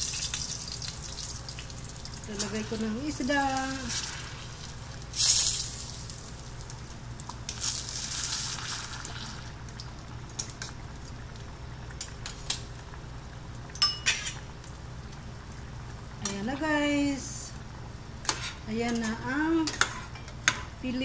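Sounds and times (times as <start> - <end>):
broth simmering in a pot: 0.0 - 21.0.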